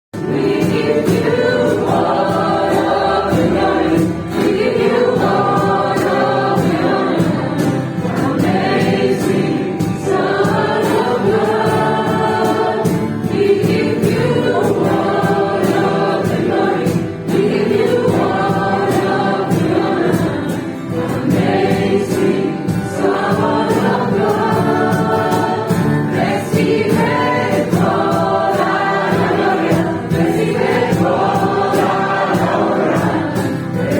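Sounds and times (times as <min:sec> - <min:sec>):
congregation singing worship song: 0:00.2 - 0:33.9.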